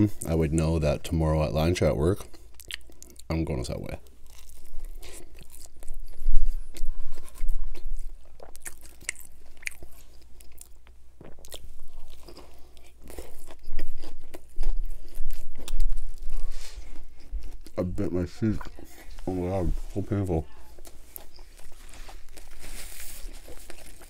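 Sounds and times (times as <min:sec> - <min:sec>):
chewing and crunching: 0:01.6 - 0:24.0.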